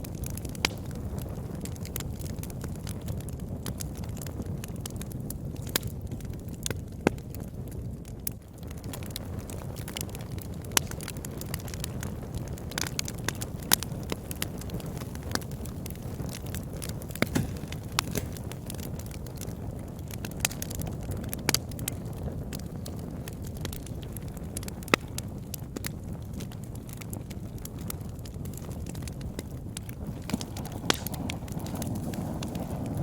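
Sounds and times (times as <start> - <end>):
fire flame rushing: 0.0 - 33.0
wood fire crackles and pops: 0.0 - 33.0.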